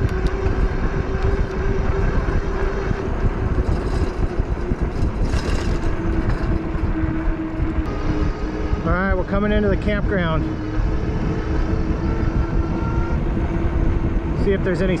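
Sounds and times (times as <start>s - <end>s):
electric motor whine: 0.0s - 15.0s
wind rushing over microphone: 0.0s - 15.0s.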